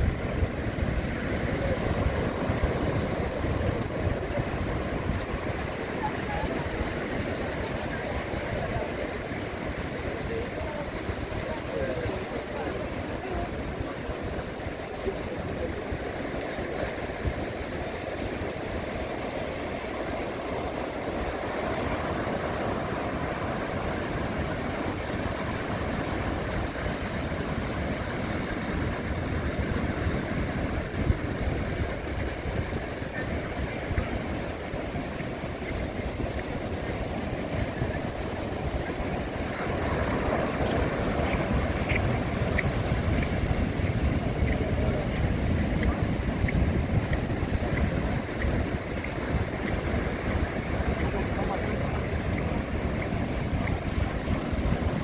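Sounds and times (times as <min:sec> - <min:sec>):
surf washing: 0:00.0 - 0:55.0
wind buffeting microphone: 0:00.0 - 0:55.0.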